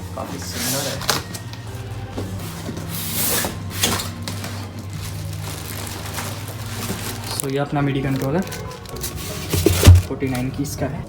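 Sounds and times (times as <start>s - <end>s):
background music: 0.0s - 11.0s
packaging rustling: 0.4s - 10.8s.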